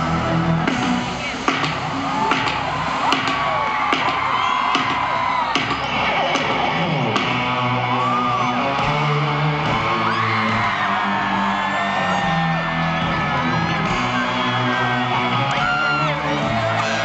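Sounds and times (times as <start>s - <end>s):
crowd screaming and whooping: 0.0s - 17.0s
live concert music: 0.0s - 17.0s.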